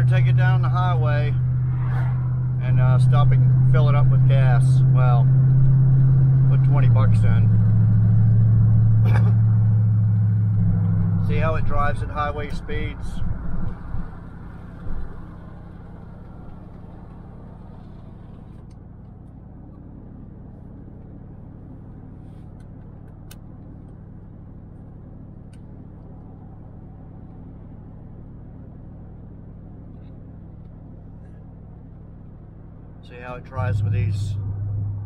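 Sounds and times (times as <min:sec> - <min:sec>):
truck engine and road noise: 0:00.0 - 0:35.0.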